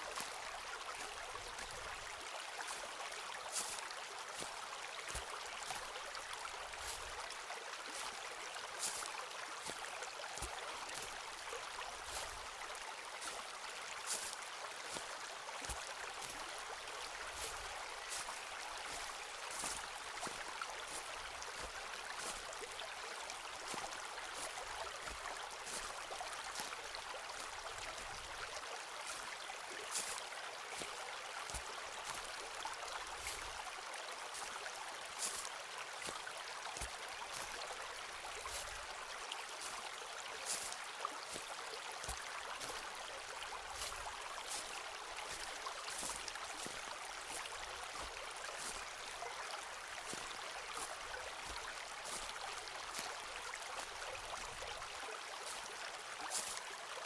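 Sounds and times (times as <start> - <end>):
footsteps crunching on forest path: 0.0 - 56.8
flowing water rushing: 0.0 - 57.0.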